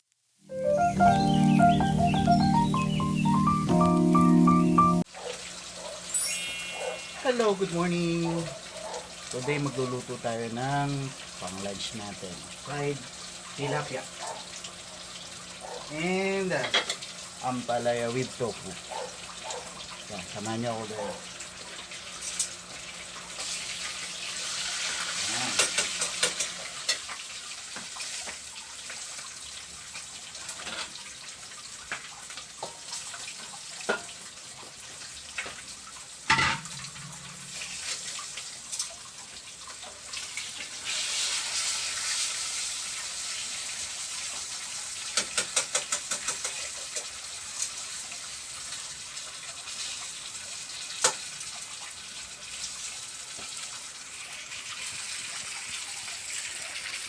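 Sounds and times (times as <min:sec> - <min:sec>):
food sizzling in hot oil: 0:05.3 - 0:57.0.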